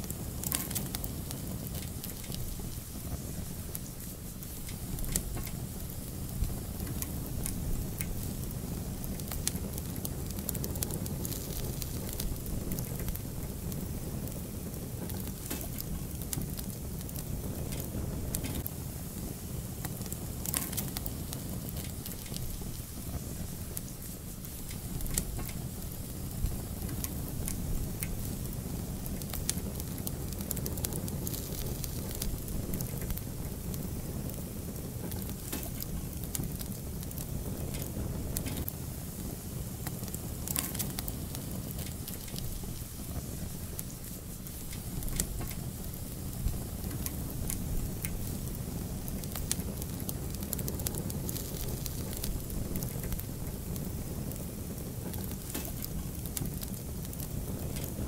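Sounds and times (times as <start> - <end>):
fire crackling and popping: 0.0 - 58.0
low fire rumble: 0.0 - 58.0.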